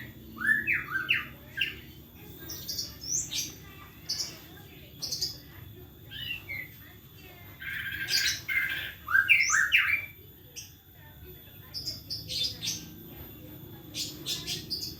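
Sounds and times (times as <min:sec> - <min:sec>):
songbird singing: 0:00.0 - 0:14.9.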